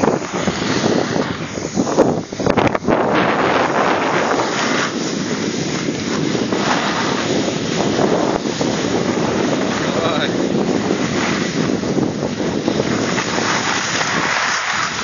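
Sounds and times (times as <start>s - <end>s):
skis hissing on snow: 0.0s - 15.0s
wind rushing over microphone: 0.0s - 15.0s.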